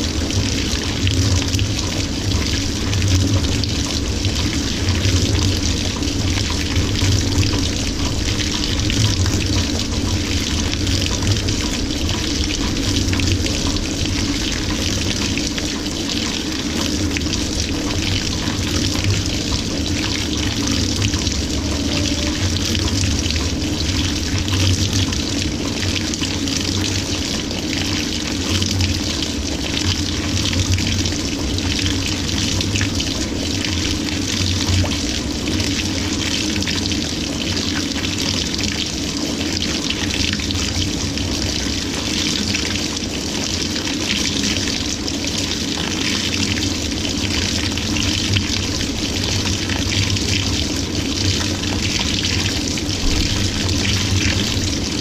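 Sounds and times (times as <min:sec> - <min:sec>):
water pouring into washing machine: 0:00.0 - 0:55.0.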